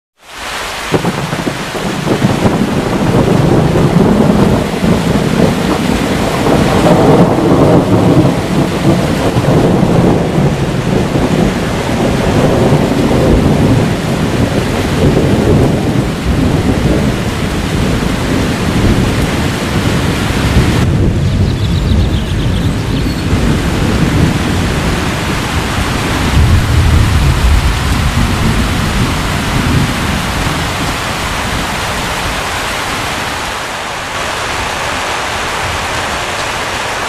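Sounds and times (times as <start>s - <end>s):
heavy rain pouring: 0.2s - 37.0s
rolling thunder: 0.9s - 32.5s.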